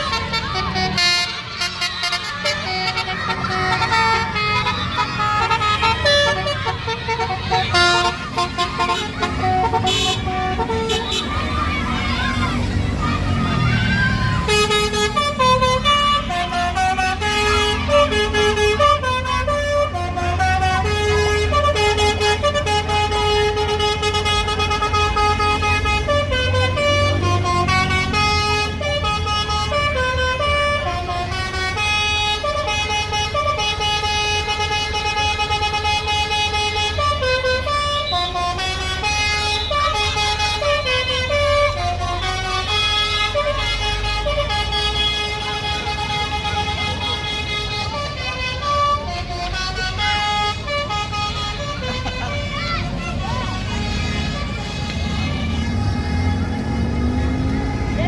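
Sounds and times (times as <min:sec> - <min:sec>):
musical bus horn playing tune: 0:00.0 - 0:12.0, 0:14.3 - 0:58.0.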